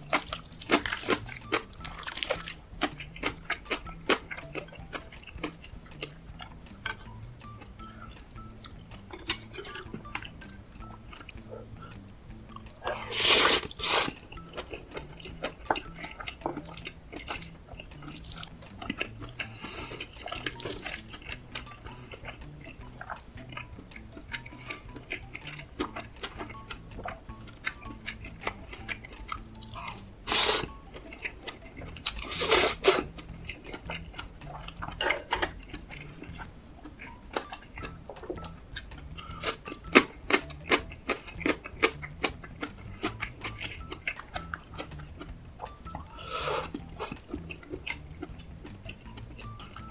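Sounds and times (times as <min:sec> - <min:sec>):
wet chewing: 0:00.0 - 0:49.9.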